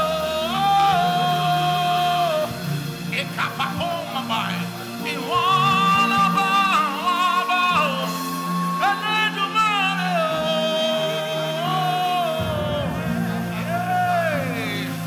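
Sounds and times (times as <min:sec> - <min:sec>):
person singing with vibrato: 0:00.0 - 0:15.0
sustained backing chords: 0:00.0 - 0:15.0.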